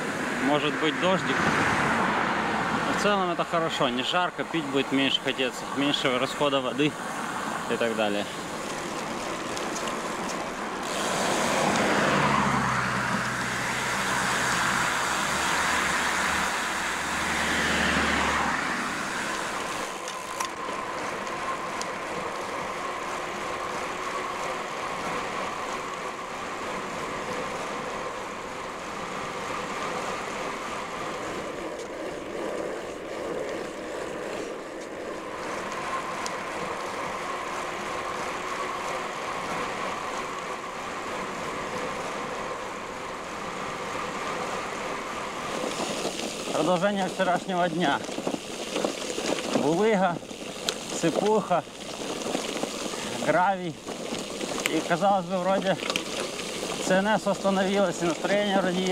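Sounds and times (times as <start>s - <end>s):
vehicle engine drone passing: 0.0s - 48.5s
road noise with faint hum: 0.0s - 58.9s.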